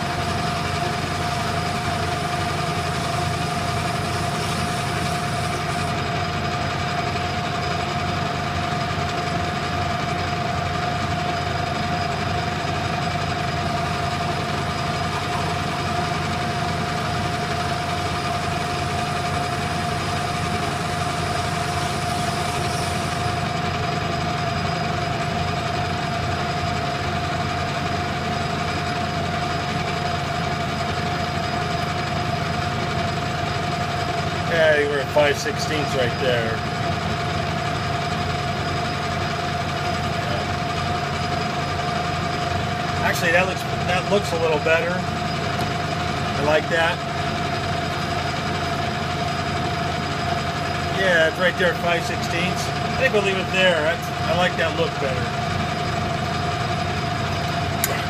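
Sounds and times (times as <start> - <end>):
metal lathe whining: 0.0 - 58.0.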